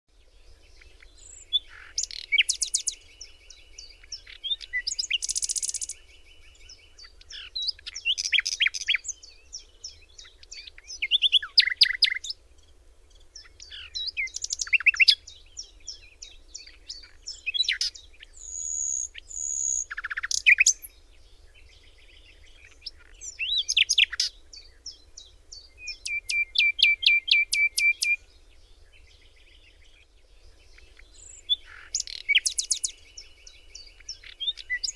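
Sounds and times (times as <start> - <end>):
songbird chirps and trills: 0.1 - 34.9.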